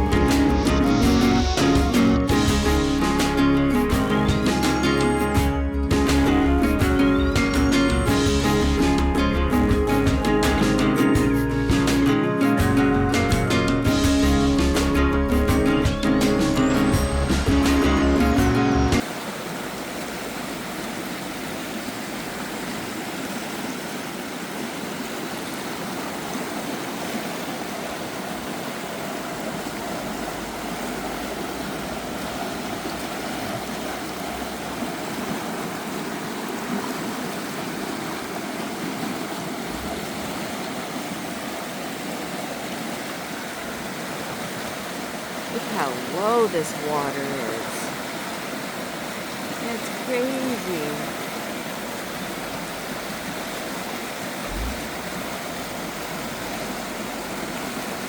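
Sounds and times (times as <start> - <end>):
river water rushing and trickling: 0.0 - 58.0.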